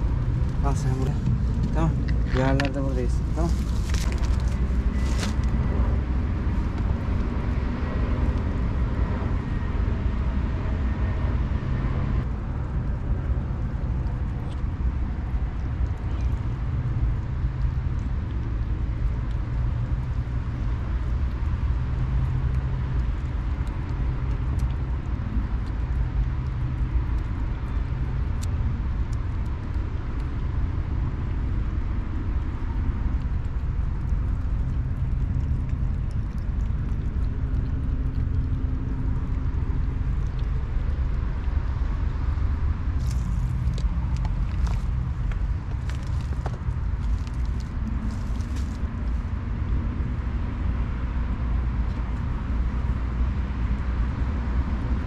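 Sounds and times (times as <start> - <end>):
engine running low rumble: 0.0 - 55.0.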